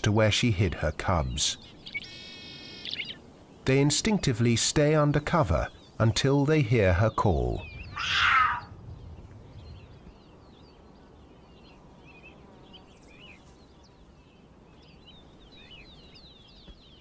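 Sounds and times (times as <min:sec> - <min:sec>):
birds twittering: 0:00.0 - 0:17.0.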